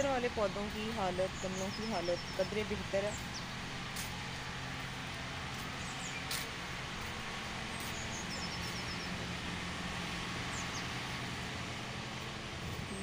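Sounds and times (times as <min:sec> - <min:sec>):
small birds chirping: 0:00.0 - 0:09.6, 0:10.4 - 0:11.2
low outdoor background drone: 0:00.0 - 0:13.0.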